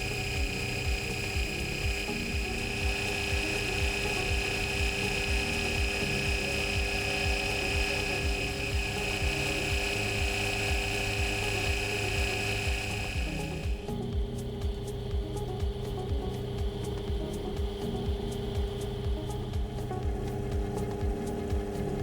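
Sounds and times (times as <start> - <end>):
bench lathe running: 0.0 - 22.0.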